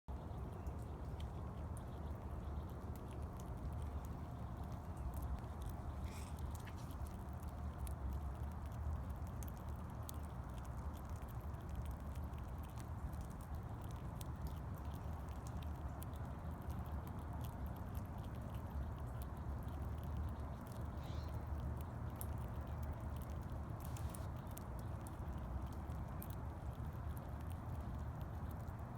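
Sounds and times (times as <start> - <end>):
steady low rumble: 0.1 - 28.5
squirrel nibbling clicks: 0.2 - 28.9.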